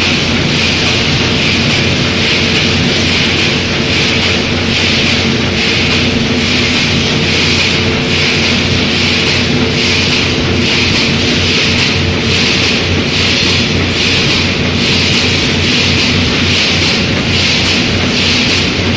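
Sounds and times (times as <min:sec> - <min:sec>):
electrical hum: 0:00.0 - 0:18.9.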